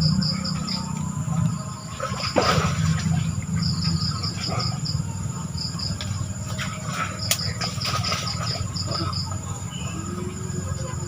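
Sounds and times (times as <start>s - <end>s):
insects chirping: 0.0s - 11.0s
low hum: 0.0s - 11.0s.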